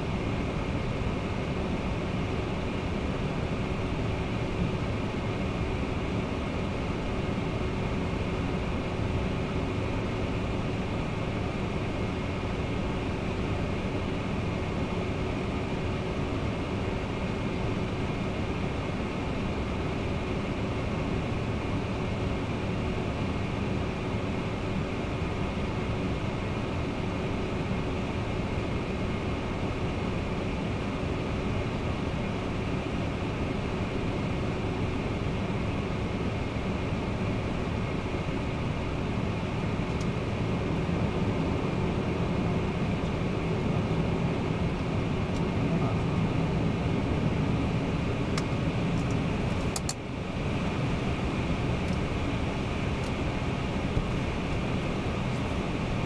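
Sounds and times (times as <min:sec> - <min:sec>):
low engine hum: 0:00.0 - 0:56.0.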